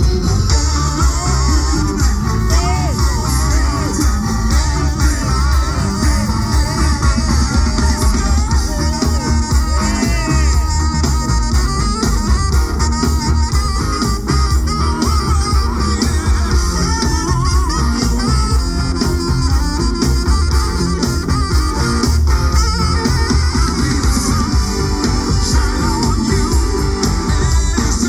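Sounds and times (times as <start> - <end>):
lead guitar line: 0.0 - 28.0
live band playing upbeat pop: 0.0 - 28.0.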